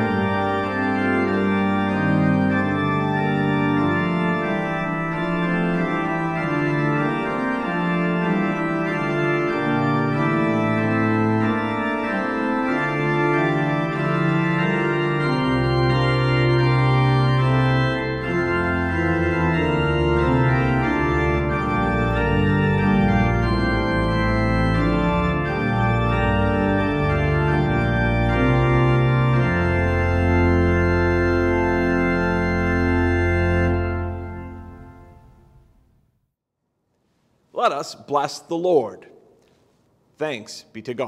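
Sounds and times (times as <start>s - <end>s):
organ playing chords: 0.0s - 36.0s.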